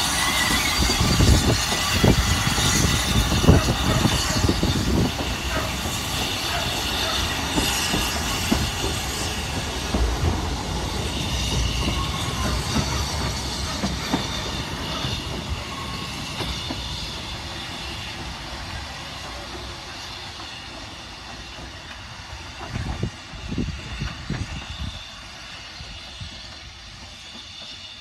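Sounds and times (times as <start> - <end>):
train wheels clicking over rail joints: 0.0 - 25.1, 25.8 - 28.0
high wheel squeal: 0.0 - 28.0.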